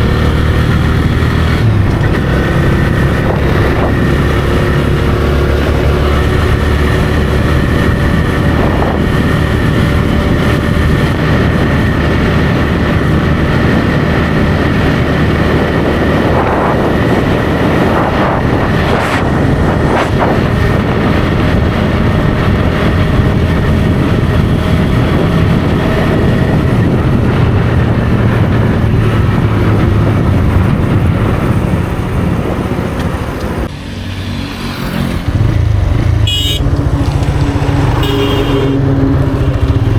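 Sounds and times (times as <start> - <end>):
motorcycle engine running: 0.0 - 33.7, 35.1 - 39.9
road noise: 0.0 - 39.9.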